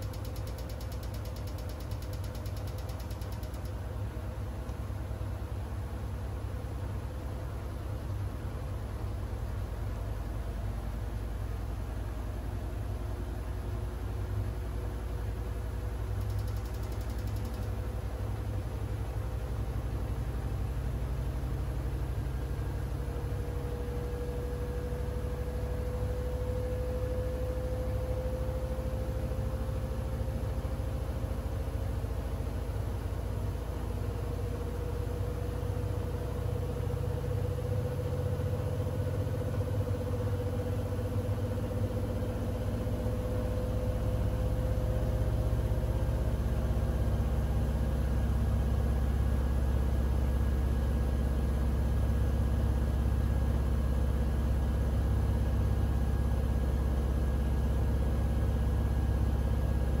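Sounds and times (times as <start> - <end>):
deep rumble of spinning drum: 0.0 - 60.0
washing machine motor whine: 0.0 - 60.0.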